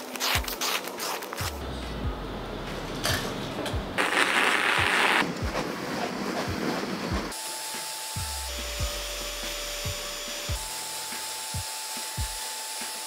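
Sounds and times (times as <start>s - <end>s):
background music with steady beat: 1.4s - 13.0s.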